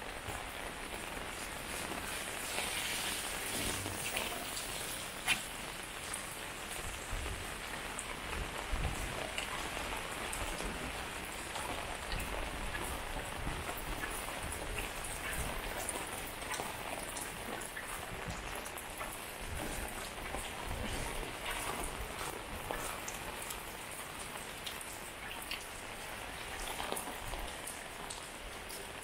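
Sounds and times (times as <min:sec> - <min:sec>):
hiss of rainfall: 0:00.0 - 0:29.0
rain drops ticking: 0:00.0 - 0:29.0.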